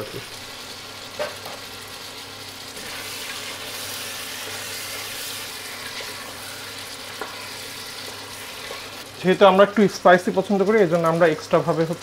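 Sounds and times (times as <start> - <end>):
beef sizzling in oil: 0.0 - 12.0.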